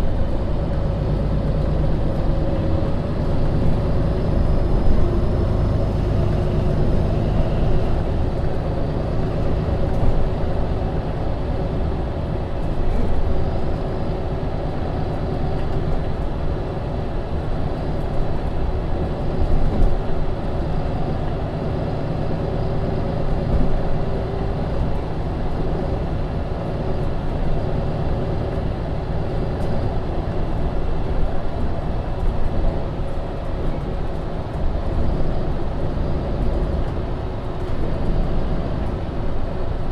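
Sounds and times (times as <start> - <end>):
bus diesel engine running: 0.0 - 39.9
rolling and road noise: 0.0 - 39.9.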